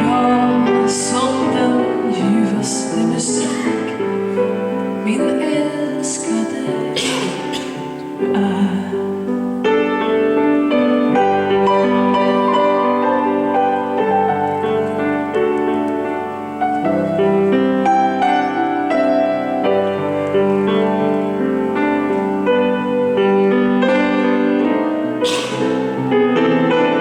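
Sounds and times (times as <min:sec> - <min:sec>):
solo piano in reverberant church: 0:00.0 - 0:27.0.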